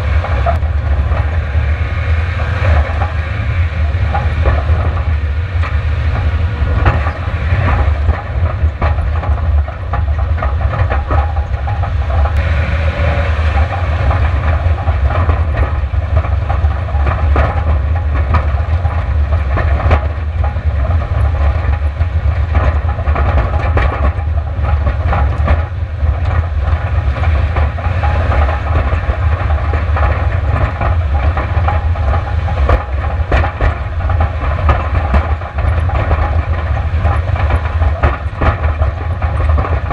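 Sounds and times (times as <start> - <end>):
rattling and knocks from rocks: 3.9 - 12.4, 13.5 - 39.9.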